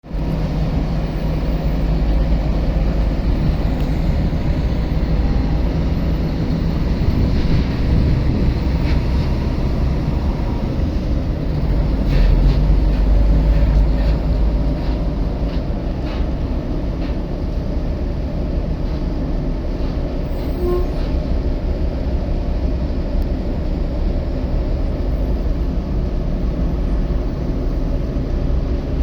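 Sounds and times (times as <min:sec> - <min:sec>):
ship engines rumbling: 0:00.0 - 0:29.0.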